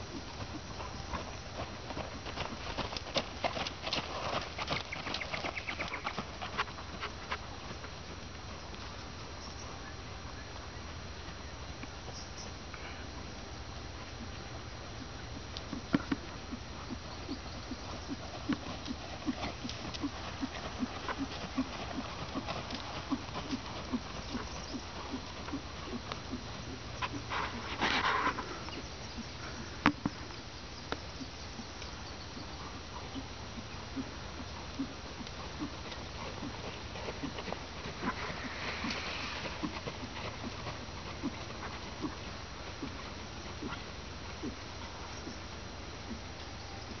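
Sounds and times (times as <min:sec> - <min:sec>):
horse hoofbeats on gravel: 0:00.0 - 0:09.2, 0:15.4 - 0:30.2, 0:31.5 - 0:46.3.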